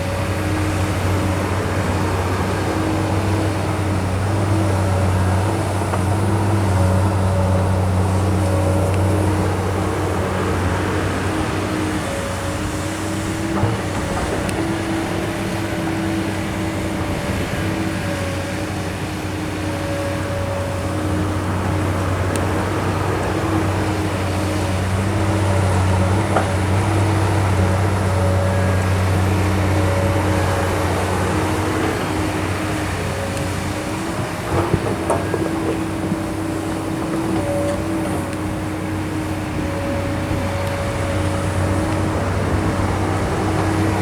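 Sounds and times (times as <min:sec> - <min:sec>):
excavator diesel engine droning: 0:00.0 - 0:44.0
hydraulic whine: 0:00.0 - 0:44.0.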